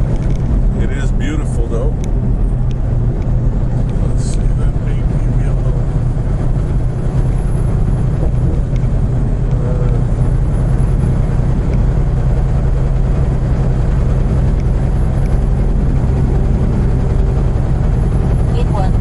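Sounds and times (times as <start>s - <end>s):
truck engine and road drone: 0.0s - 19.0s.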